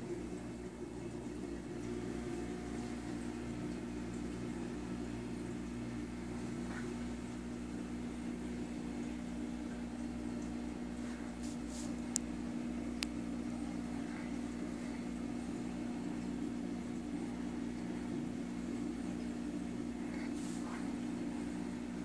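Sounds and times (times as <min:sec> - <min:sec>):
aquarium pumps humming: 0:00.0 - 0:22.0.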